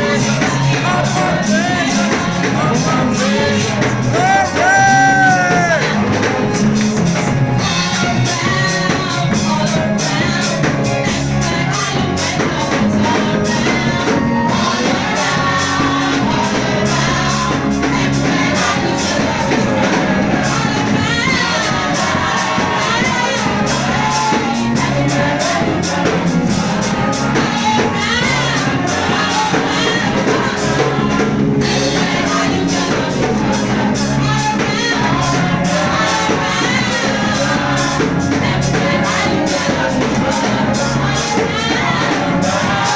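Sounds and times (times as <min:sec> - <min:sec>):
band with held bass notes: 0:00.0 - 0:42.9
people singing worship song: 0:00.0 - 0:42.9.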